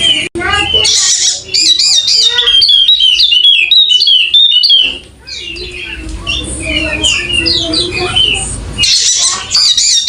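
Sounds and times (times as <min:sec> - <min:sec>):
bird singing high chirping notes: 0:00.0 - 0:10.0.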